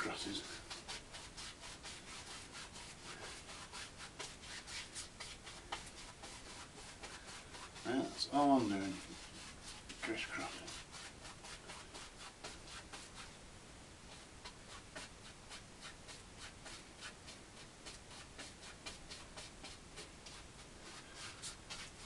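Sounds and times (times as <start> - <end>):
paintbrush scratching on canvas: 0.0 - 13.4, 14.1 - 22.0.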